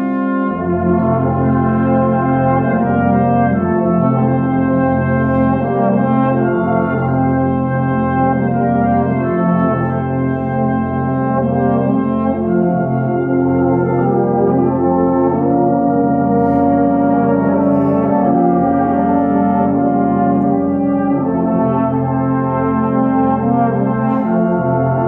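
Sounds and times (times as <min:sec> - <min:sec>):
brass band playing slow chords: 0:00.0 - 0:25.0.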